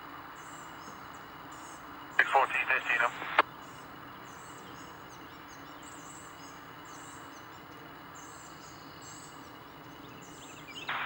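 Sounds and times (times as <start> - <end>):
faint outdoor background noise: 0.0 - 11.0
birds chirping: 0.3 - 11.0.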